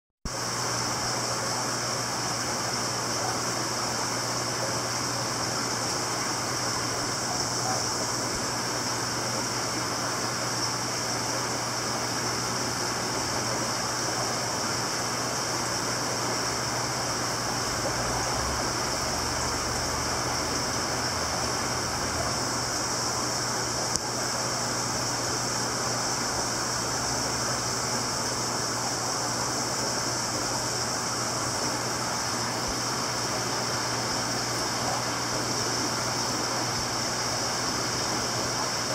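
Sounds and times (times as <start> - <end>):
aquarium water rushing hiss: 0.3 - 38.9.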